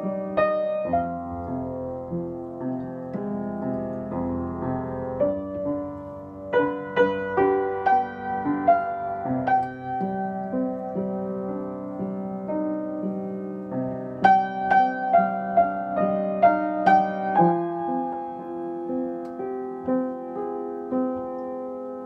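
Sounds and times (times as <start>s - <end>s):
upright piano playing: 0.0s - 22.0s.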